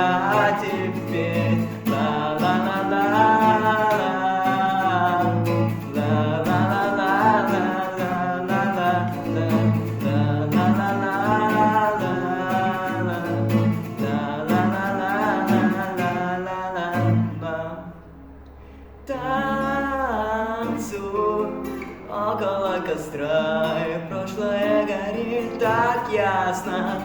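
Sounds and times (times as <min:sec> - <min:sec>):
person singing: 0:00.0 - 0:17.9, 0:19.1 - 0:27.0
acoustic guitar strumming: 0:00.0 - 0:27.0.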